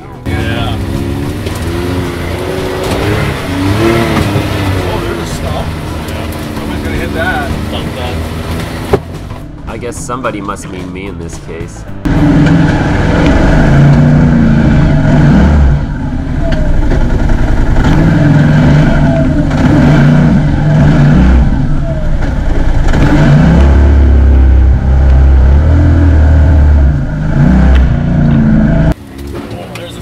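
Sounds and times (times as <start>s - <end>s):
off-road vehicle engine revving: 0.0s - 9.4s, 11.8s - 30.0s.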